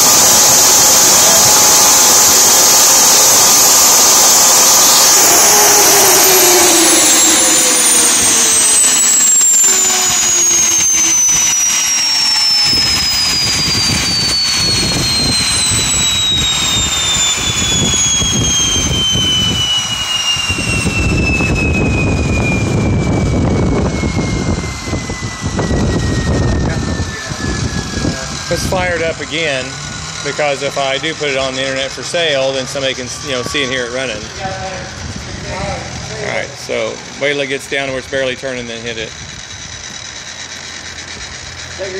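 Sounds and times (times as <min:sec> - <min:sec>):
low rumble: 0:00.0 - 0:41.9
turbine engine spinning down: 0:00.0 - 0:41.9.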